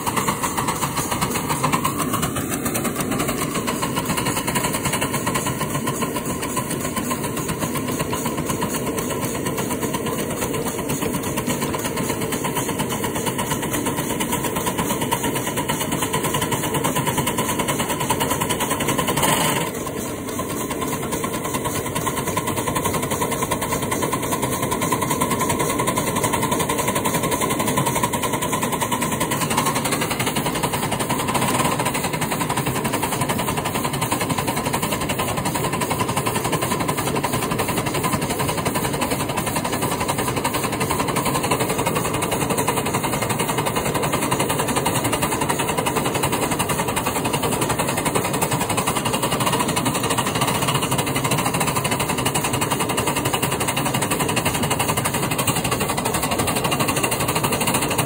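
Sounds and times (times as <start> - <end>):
locomotive running steadily: 0.0 - 58.0.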